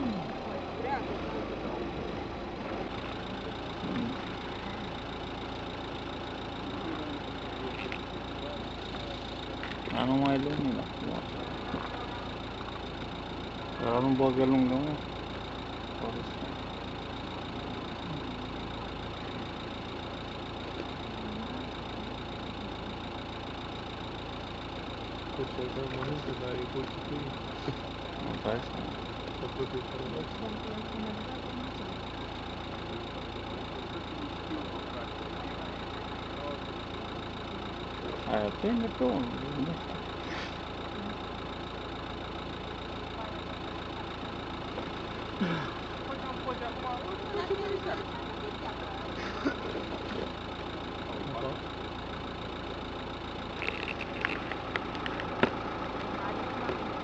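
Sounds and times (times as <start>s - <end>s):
engine idling hum: 0.0s - 57.0s.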